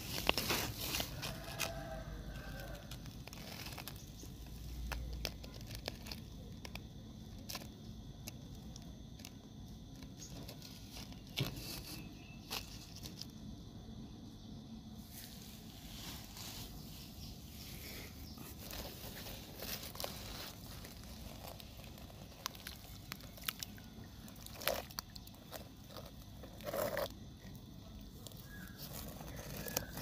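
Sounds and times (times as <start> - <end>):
small clicks and gritty crackles: 0.0 - 13.4, 16.0 - 30.0
faint outdoor background: 0.0 - 30.0.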